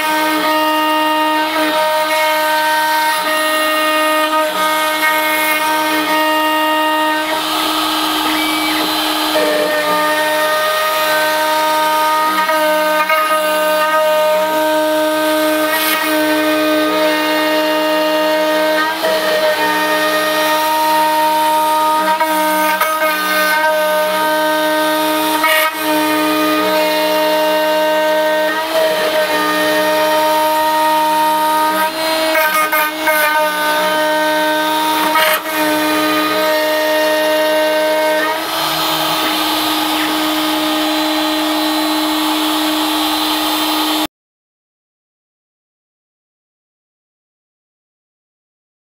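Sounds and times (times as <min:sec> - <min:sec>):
router cutting wood: 0:00.0 - 0:44.1.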